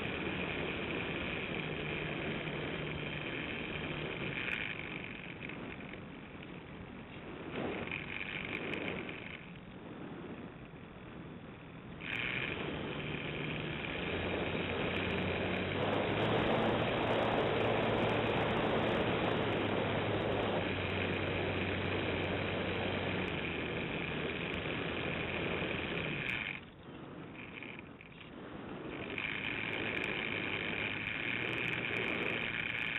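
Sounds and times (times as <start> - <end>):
model plane motor whine: 0.0 - 32.9
rush of air: 0.0 - 32.9.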